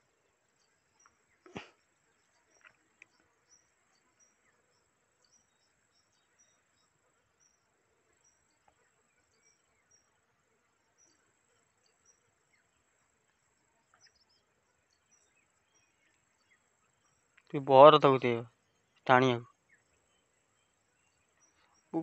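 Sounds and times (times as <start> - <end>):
insect chorus droning and chirping: 0.0 - 22.0.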